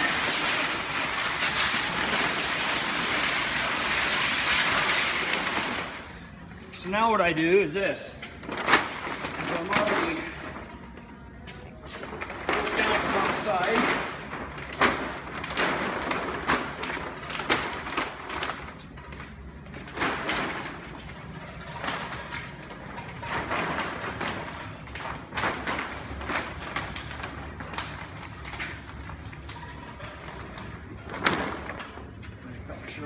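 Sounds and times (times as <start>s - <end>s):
plastic film crinkling: 0.0s - 6.2s, 8.3s - 33.0s.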